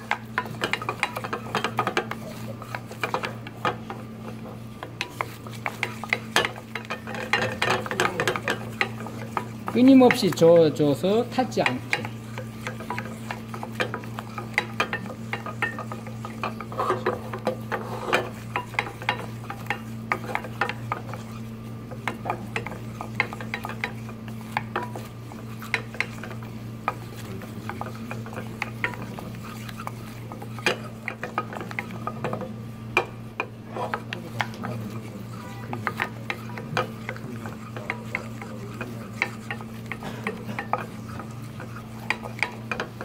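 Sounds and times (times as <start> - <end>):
steady low hum: 0.0 - 43.0
wooden spatula scraping a saucepan: 0.0 - 43.0.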